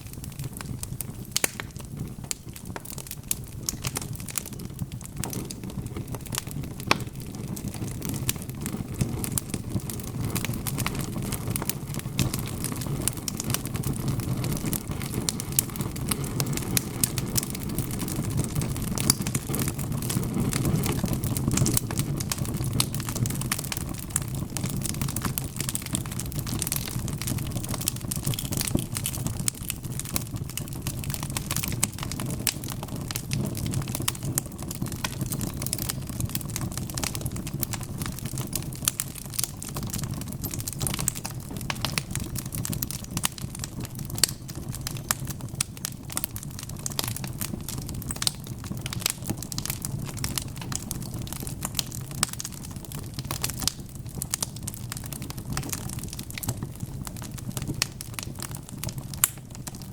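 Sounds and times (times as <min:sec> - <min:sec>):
flames rushing: 0:00.0 - 0:59.9
wood fire crackling: 0:00.0 - 0:59.9.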